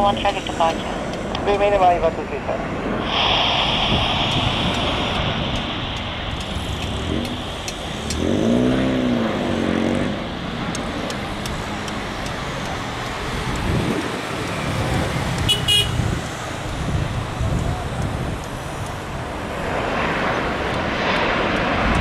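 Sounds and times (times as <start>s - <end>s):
jet engines rumbling: 0.0s - 22.0s
wind on microphone: 0.0s - 22.0s.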